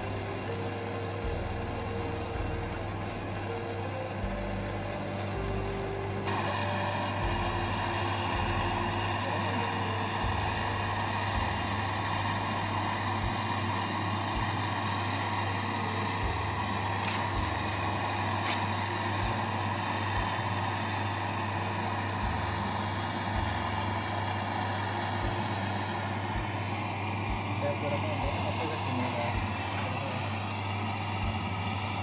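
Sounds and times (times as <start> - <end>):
gas torch hissing: 0.0 - 32.0.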